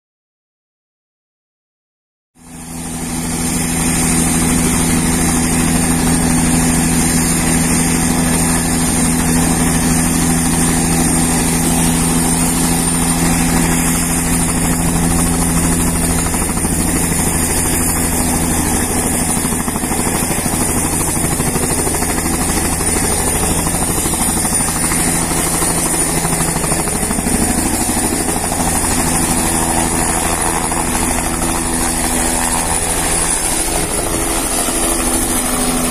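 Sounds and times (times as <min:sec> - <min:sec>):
helicopter rotor noise: 0:02.4 - 0:35.9
helicopter turbine whine: 0:02.4 - 0:35.9.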